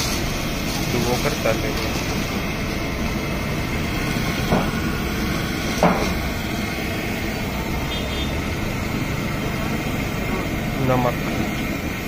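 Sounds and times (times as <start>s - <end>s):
street stall rumbling noise: 0.0s - 12.0s.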